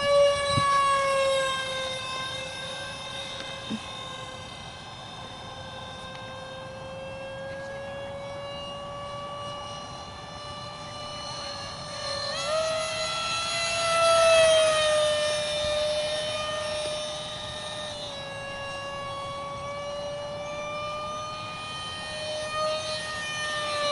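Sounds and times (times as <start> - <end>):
model jet fan whine: 0.0 - 23.9.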